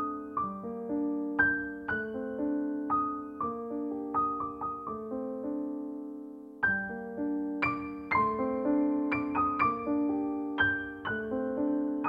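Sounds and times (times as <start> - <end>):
slow soft solo piano music: 0.0 - 12.0.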